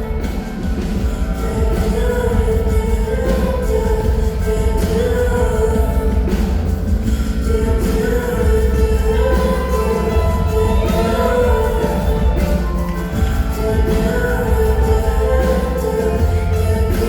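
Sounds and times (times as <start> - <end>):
deep steady bass: 0.0 - 17.0
keyboards: 0.0 - 17.0
woman singing: 0.0 - 17.0.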